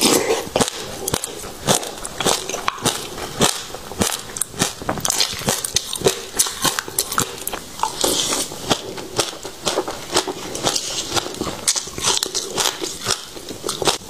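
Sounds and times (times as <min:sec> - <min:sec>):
chewing crunchy seeds: 0:00.0 - 0:14.0.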